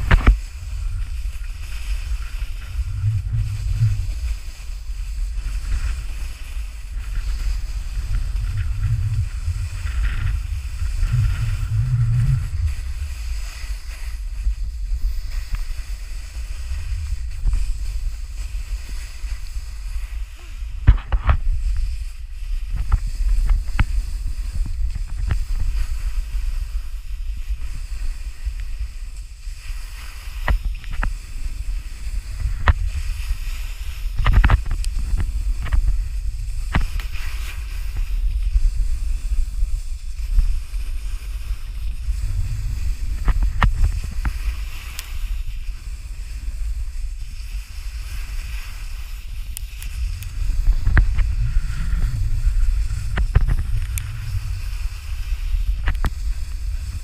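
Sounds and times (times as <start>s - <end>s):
snowboard scraping snow: 0.0s - 57.0s
wind buffeting microphone: 0.0s - 57.0s.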